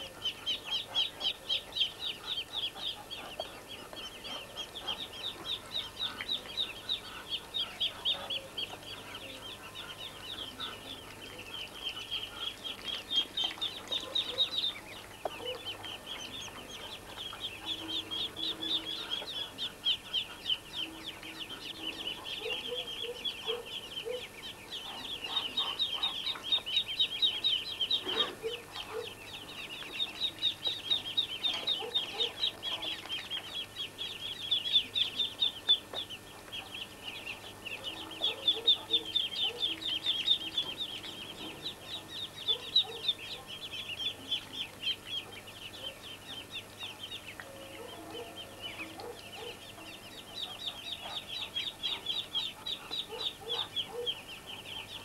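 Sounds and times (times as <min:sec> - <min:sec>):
adult duck clucking: 0:00.0 - 0:46.5
ducklings peeping: 0:00.0 - 0:55.0.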